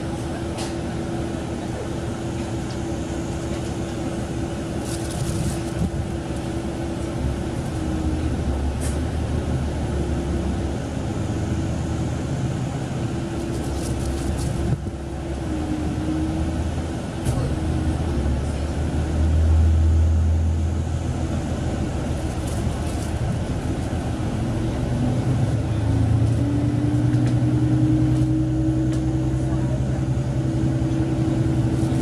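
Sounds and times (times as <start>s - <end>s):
diesel railcar engine droning: 0.0s - 32.0s.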